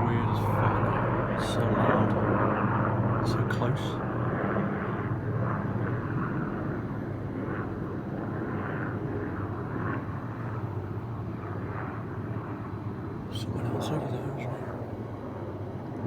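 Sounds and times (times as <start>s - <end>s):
aircraft engine droning: 0.0s - 16.0s.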